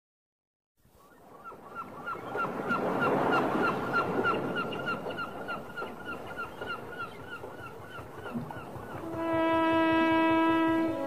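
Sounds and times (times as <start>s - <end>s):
gulls calling: 1.2s - 11.0s.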